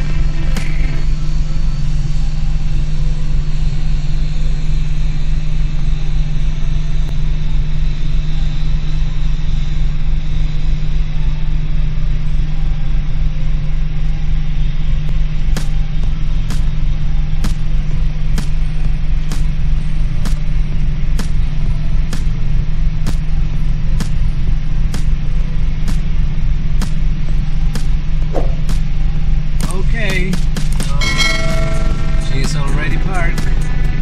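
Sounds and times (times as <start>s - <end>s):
turboprop engines droning: 0.0s - 34.0s.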